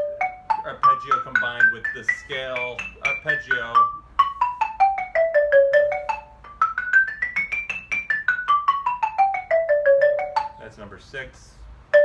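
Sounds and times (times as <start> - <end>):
xylophone run of notes: 0.0 - 10.6.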